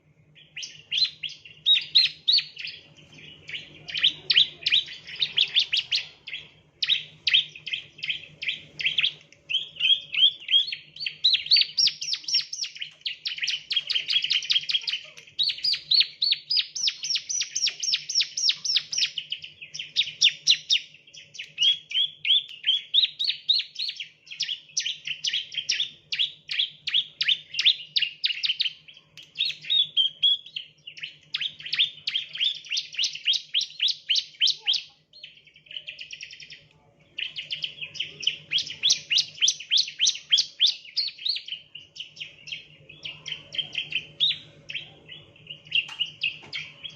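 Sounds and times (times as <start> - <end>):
bird singing rapid high chirps: 0.0 - 46.9.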